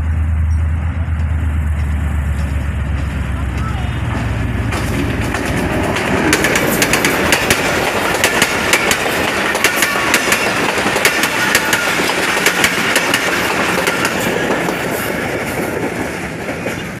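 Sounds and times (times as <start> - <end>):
train wheels rumbling on rails: 0.0 - 17.0
wheels clicking and clacking: 0.5 - 17.0.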